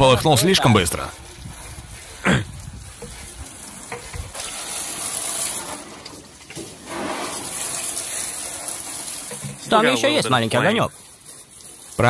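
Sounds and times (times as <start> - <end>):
hose water spraying hiss: 0.0 - 12.0.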